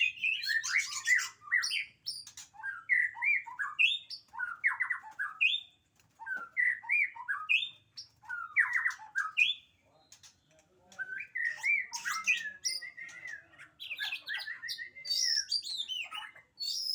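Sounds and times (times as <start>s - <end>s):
shama bird singing: 0.0s - 16.9s.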